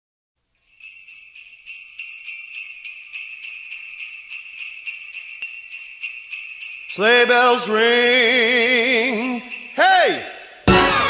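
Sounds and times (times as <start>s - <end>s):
sleigh bells shaken: 0.4s - 11.0s.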